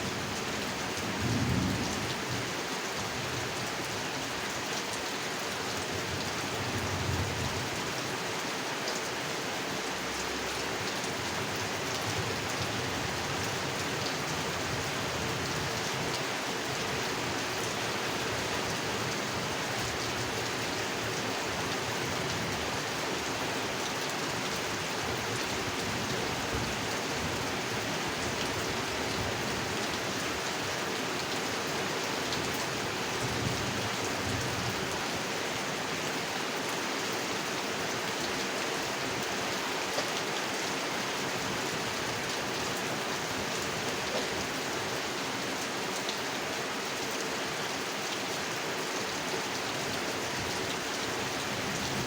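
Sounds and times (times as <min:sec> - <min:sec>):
rain falling on a pond: 0:00.0 - 0:52.0.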